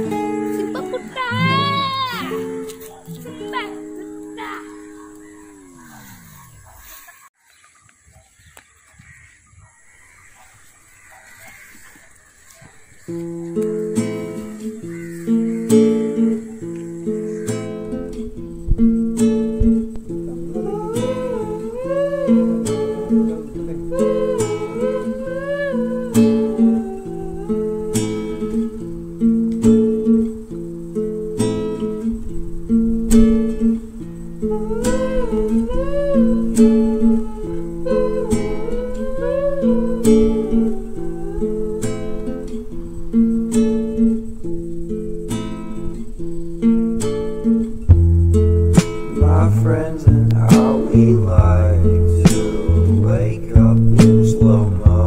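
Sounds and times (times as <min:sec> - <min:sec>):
acoustic guitar chords: 0:00.0 - 0:06.0, 0:13.0 - 0:55.0.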